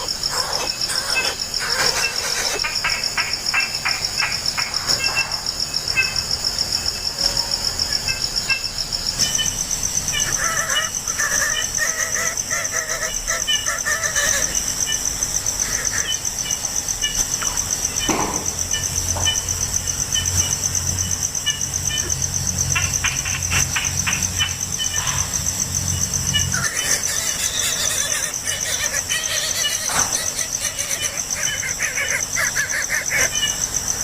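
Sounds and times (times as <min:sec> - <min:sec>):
bird chirps: 0:00.0 - 0:34.0
insects trilling: 0:00.0 - 0:34.0.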